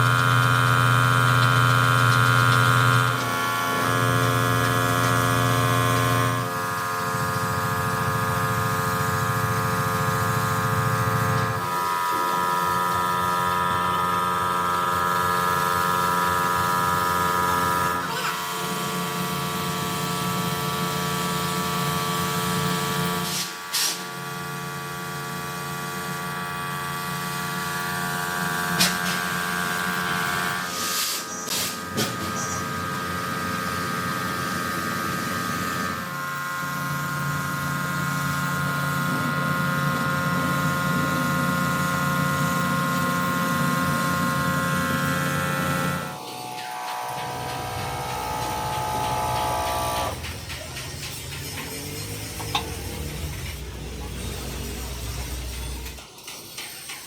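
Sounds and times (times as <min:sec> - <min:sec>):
workshop machinery humming: 0:00.0 - 0:57.0.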